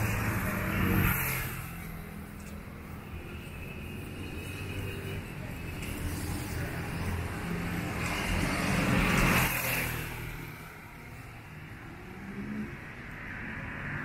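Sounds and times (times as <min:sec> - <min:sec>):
motorcycles passing by: 0:00.0 - 0:14.0
steady traffic noise: 0:00.0 - 0:14.0.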